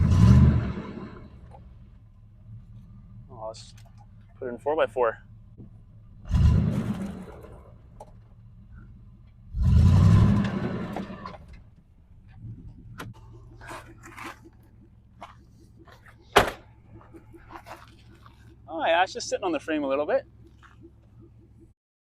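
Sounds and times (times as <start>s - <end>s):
truck engine revving: 0.0s - 3.6s, 5.5s - 21.8s.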